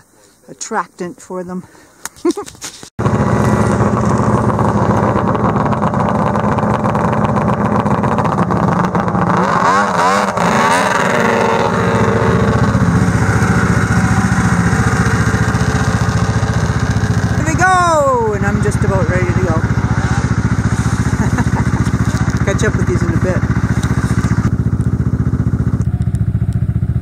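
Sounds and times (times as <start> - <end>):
snowmobile engine revving: 3.0 - 27.0.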